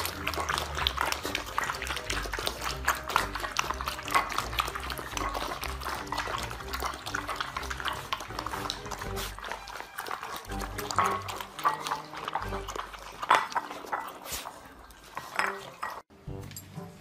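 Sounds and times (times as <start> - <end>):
puppies lapping and slurping: 0.0 - 16.1.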